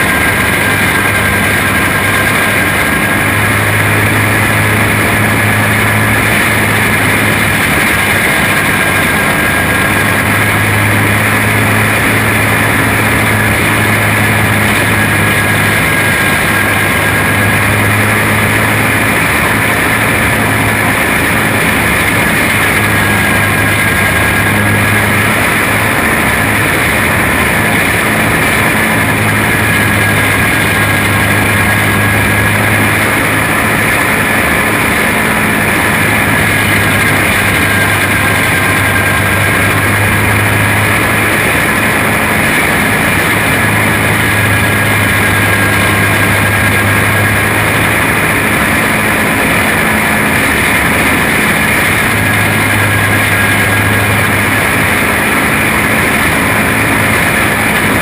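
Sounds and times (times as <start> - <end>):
race car engine drone: 0.0 - 58.0.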